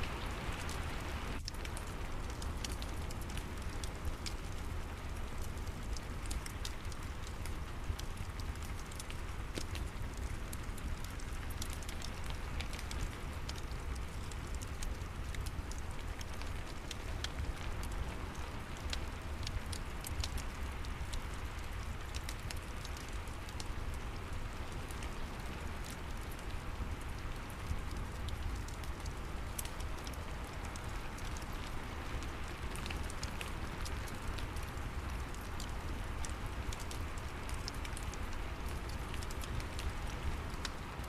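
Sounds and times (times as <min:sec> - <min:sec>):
steady rain falling: 0:00.0 - 0:41.0
wood fire crackling: 0:00.0 - 0:41.0.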